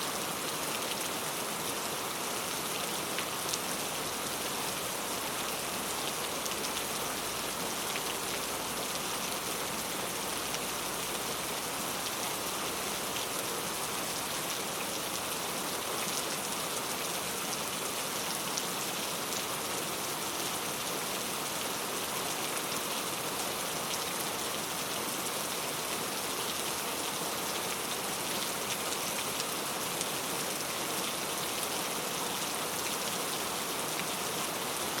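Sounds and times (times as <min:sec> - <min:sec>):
heavy rain on leaves: 0:00.0 - 0:35.0.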